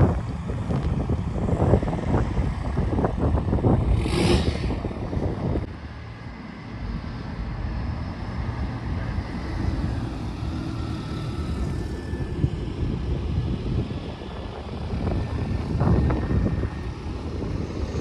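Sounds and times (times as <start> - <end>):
cars rolling slowly past: 0.0 - 18.0.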